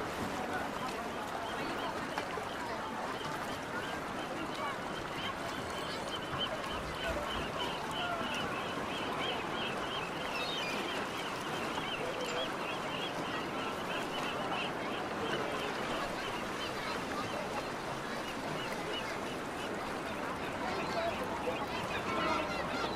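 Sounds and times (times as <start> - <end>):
people talking indistinctly: 0.3 - 22.9.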